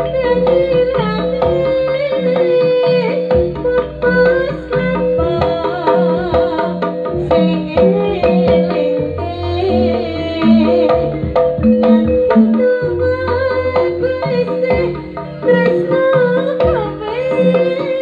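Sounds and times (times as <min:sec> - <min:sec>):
gamelan ensemble playing: 0:00.0 - 0:18.0
hand drums beating: 0:00.0 - 0:18.0.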